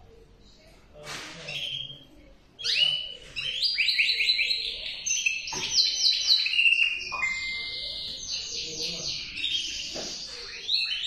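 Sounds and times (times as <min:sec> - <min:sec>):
canary singing: 0:01.5 - 0:11.0.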